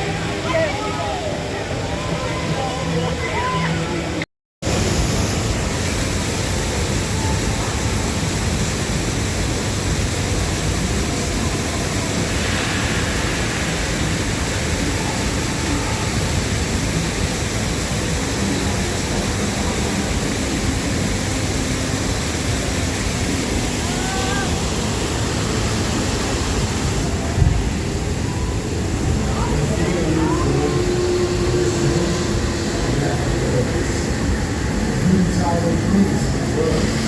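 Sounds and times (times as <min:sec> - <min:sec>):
loud rush of water: 0:00.0 - 0:37.0.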